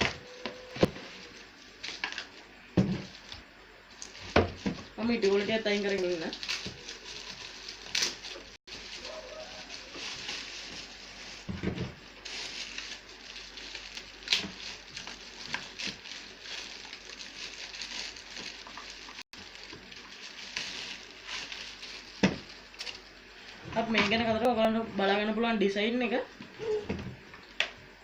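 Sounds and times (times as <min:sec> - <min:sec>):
plastic packaging crinkling: 0:00.2 - 0:23.1.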